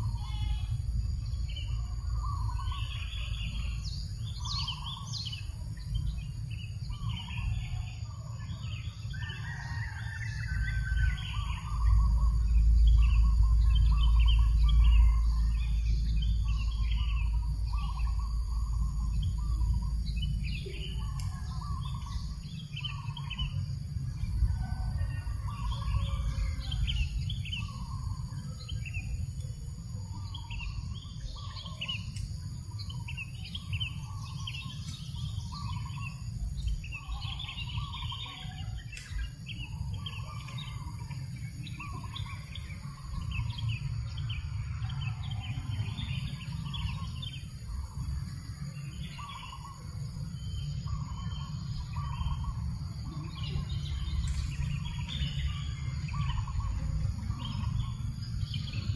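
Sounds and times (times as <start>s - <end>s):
birds chirping: 0.0s - 58.9s
low rumble of breeze: 0.0s - 58.9s.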